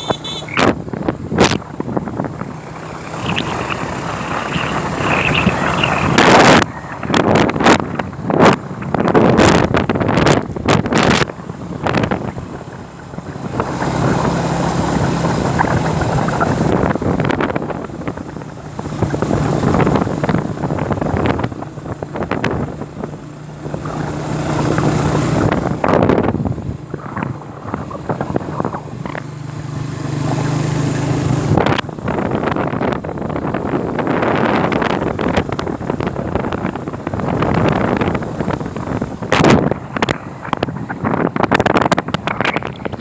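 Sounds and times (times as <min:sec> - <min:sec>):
motorbike engine drone: 0:00.0 - 0:43.0
wind buffeting microphone: 0:00.0 - 0:43.0.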